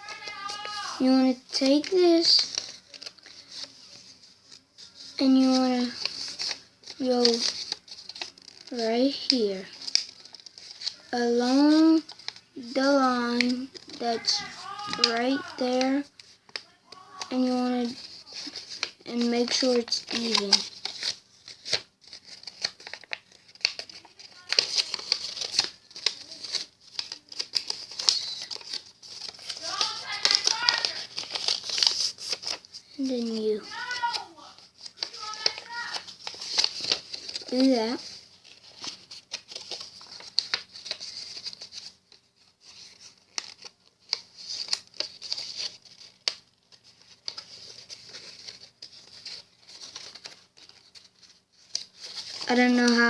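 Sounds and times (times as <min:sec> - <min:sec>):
paper rustling and crinkling: 0:00.0 - 0:53.0.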